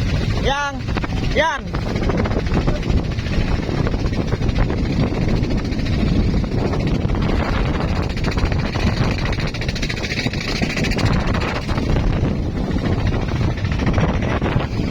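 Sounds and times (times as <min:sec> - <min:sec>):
motorboat engine running: 0:00.0 - 0:14.9.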